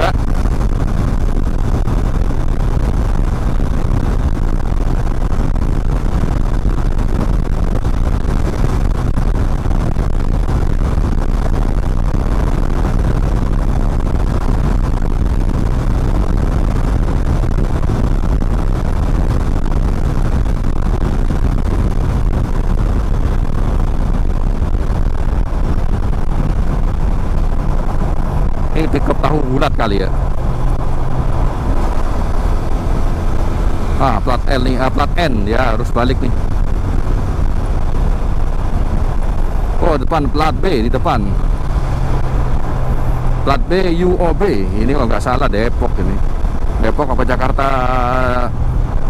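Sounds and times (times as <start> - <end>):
motorcycle engine rumble: 0.0 - 49.0
road and wind noise: 0.0 - 49.0.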